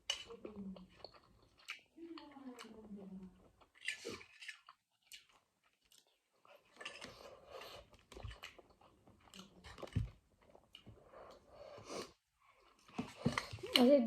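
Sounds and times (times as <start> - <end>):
wet chewing mouth sounds: 0.0 - 13.9.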